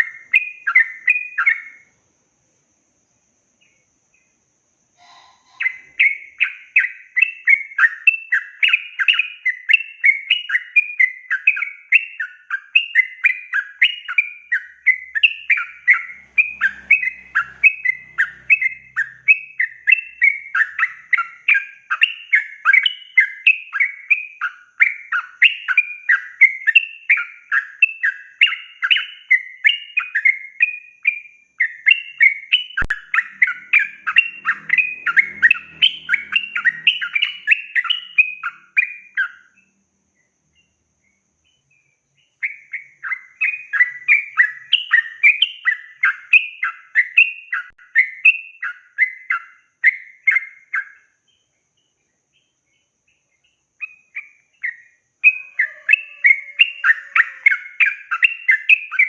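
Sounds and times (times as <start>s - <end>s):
bulbul chattering song: 0.0s - 59.0s.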